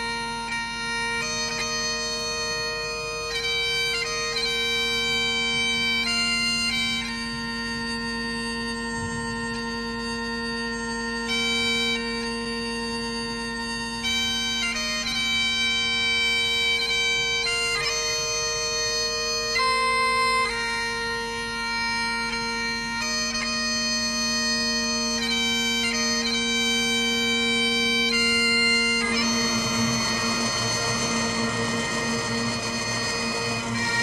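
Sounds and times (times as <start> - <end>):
bagpipe music: 0.0 - 34.0.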